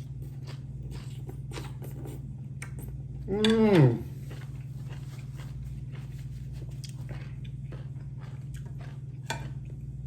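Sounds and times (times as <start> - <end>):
person chewing food: 0.0 - 10.0
steady low hum: 0.0 - 10.0.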